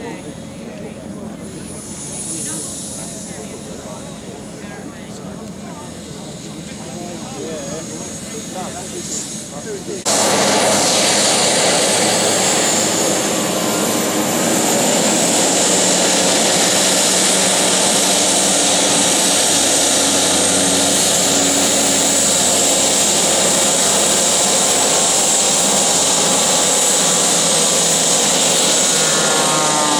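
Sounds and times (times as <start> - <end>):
model jet engine running: 0.0 - 29.9.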